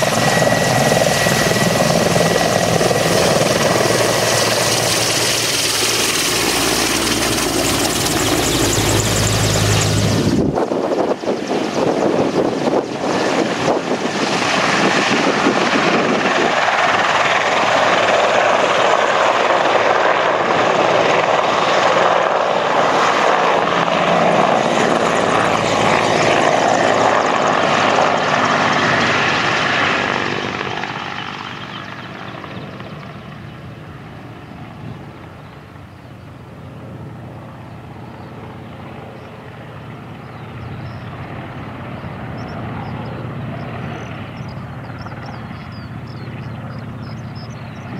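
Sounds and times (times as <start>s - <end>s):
helicopter engines and rotor: 0.0s - 47.9s.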